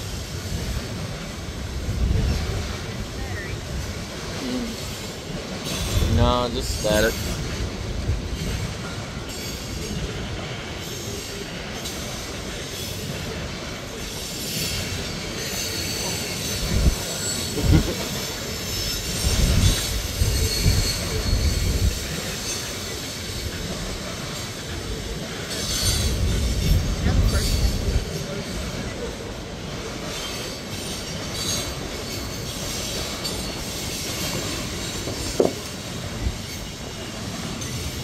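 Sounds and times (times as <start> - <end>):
train wheels squealing: 4.8 - 35.4.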